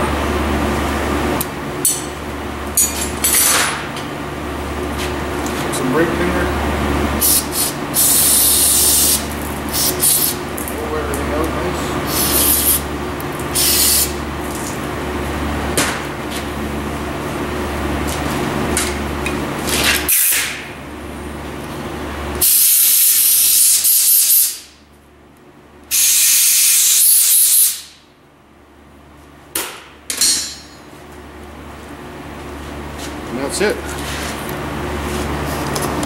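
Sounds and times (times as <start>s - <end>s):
steady low hum: 0.0s - 23.9s, 27.6s - 36.0s.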